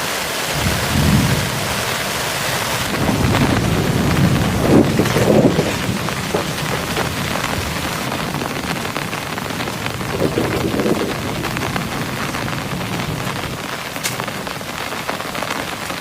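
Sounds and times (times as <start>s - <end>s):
heavy rain patter: 0.0s - 16.0s
thunder rumbles: 0.5s - 16.0s.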